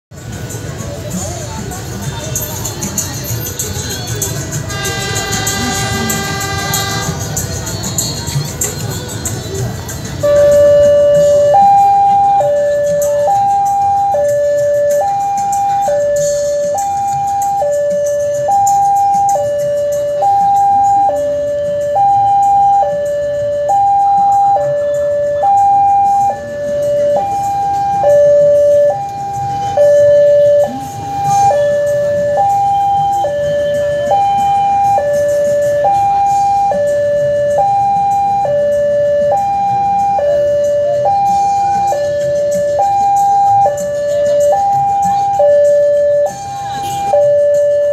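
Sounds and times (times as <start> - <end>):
two-tone level crossing alarm: 4.7 - 7.3, 10.2 - 47.9.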